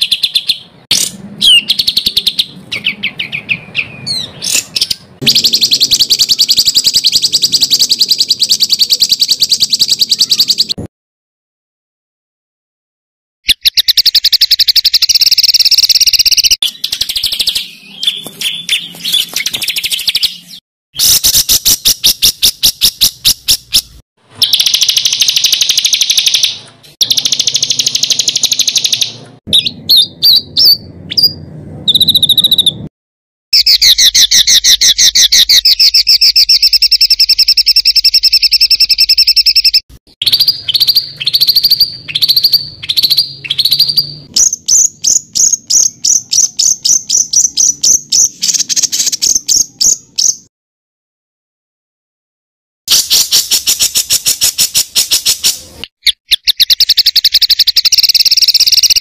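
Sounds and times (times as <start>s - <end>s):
songbird trilling: 0.0s - 10.8s, 13.5s - 32.9s, 33.6s - 50.5s, 52.9s - 59.0s.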